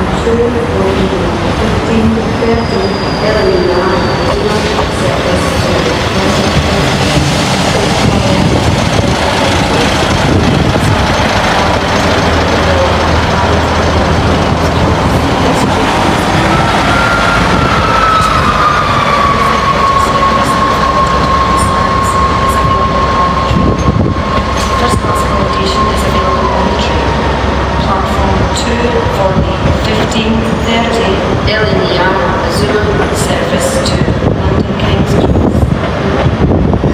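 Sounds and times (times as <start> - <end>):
train rumble: 0.0 - 36.9.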